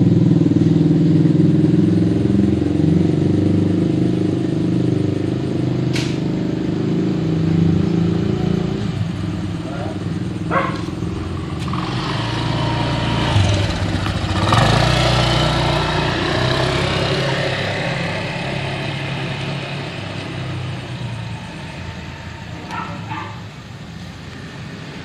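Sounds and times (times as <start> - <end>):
vehicle engine passing by: 0.0 - 25.0.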